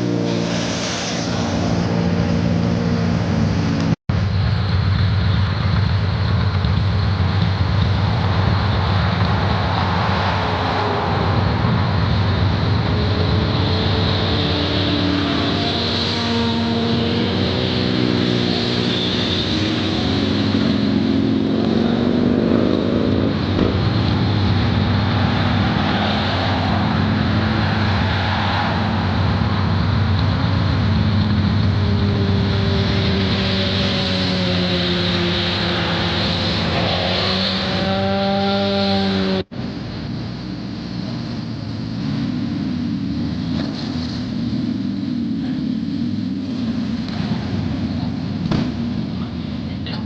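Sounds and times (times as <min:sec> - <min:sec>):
motorcycle engines running: 0:00.0 - 0:50.0
wind and road noise: 0:00.0 - 0:50.0.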